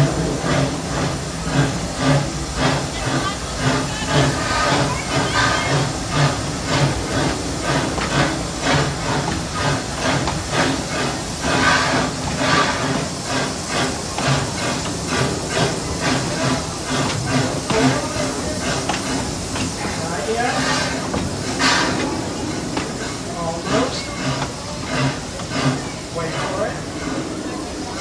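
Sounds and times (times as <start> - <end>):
steam hissing: 0.0 - 28.0
steam locomotive chuffing: 0.0 - 28.0.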